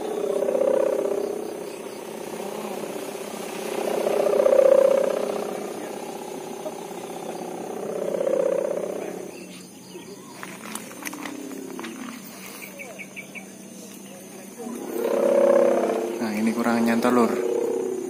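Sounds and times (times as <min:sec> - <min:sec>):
kite hummer droning: 0:00.0 - 0:18.0.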